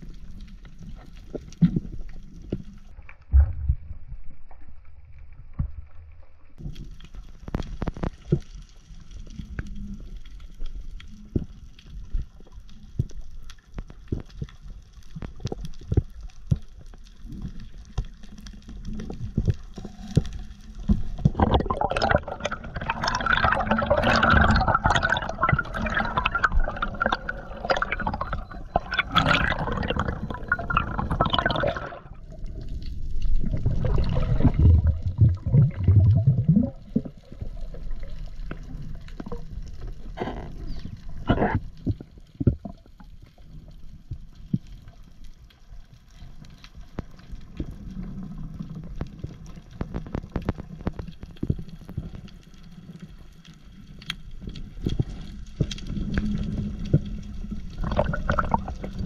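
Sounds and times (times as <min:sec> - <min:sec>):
water sloshing and gurgling: 0:00.0 - 0:59.0
water splashing and bubbling: 0:00.0 - 0:59.0.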